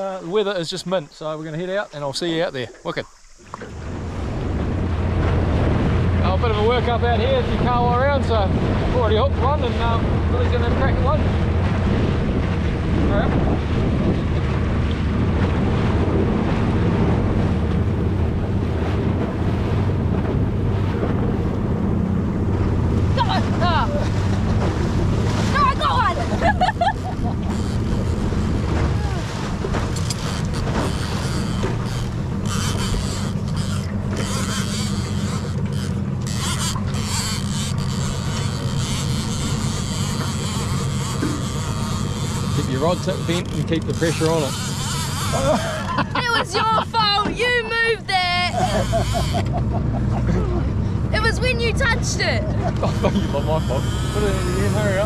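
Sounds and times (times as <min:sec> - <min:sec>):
boat motor running: 0:00.0 - 0:55.0
water rushing past hull: 0:00.0 - 0:55.0
wind buffeting microphone: 0:03.4 - 0:55.0.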